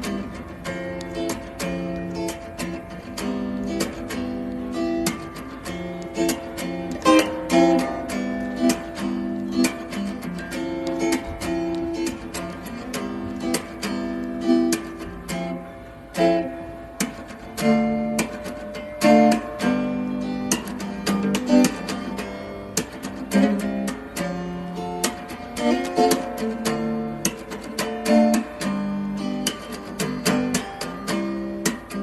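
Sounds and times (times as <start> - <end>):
acoustic guitar strummed and plucked: 0.0 - 32.0.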